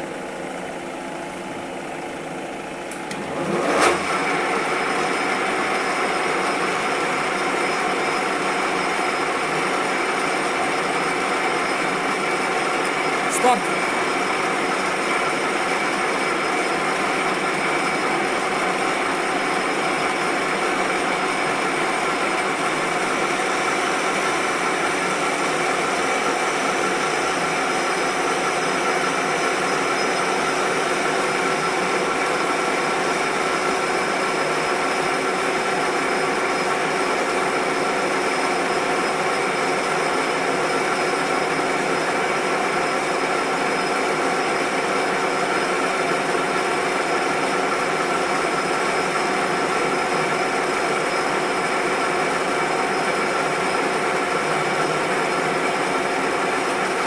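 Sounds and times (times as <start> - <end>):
lathe gearbox whine: 0.0 - 57.0.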